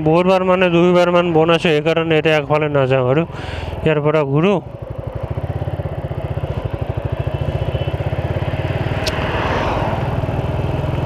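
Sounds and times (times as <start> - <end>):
motorcycle engine running: 1.2 - 11.0.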